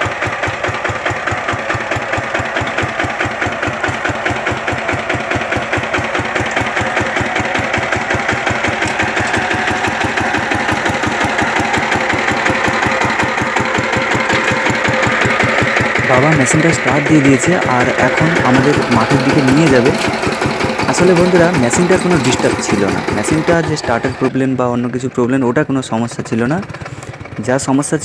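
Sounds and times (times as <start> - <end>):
tractor engine knocking: 0.0 - 28.0.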